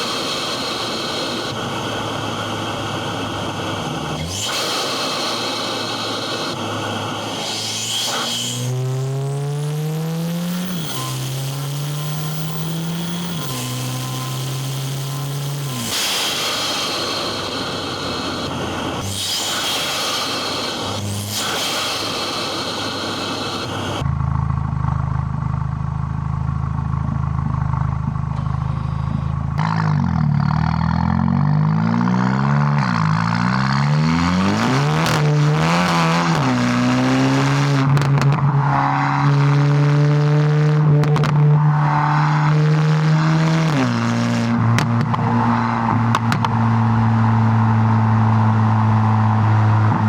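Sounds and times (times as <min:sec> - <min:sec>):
car engine accelerating hard: 0:00.0 - 0:50.0
road and wind noise: 0:00.0 - 0:50.0.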